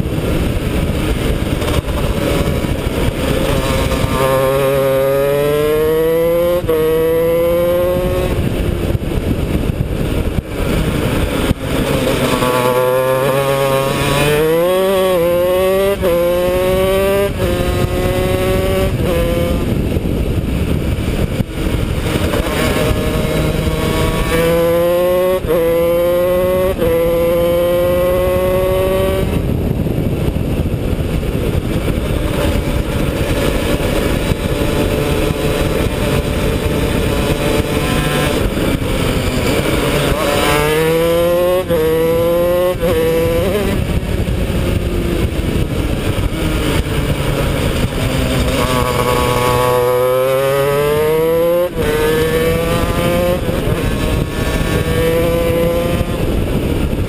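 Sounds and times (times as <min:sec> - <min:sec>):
kart engine revving through gears: 0:00.0 - 0:29.5, 0:31.6 - 0:57.0.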